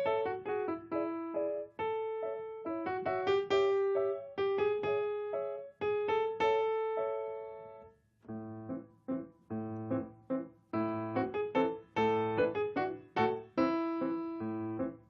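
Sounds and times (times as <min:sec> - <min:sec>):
solo acoustic piano: 0:00.0 - 0:15.0.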